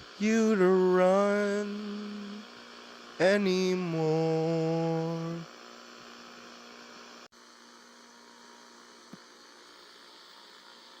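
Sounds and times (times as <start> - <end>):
faint mains hum with hiss: 0.0 - 11.0.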